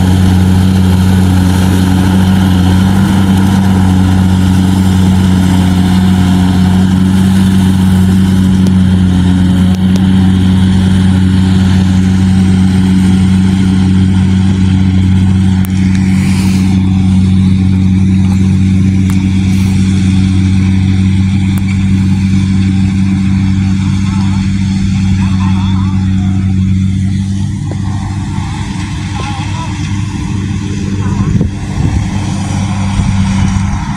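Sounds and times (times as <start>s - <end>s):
combine harvester diesel engine: 0.0s - 33.9s.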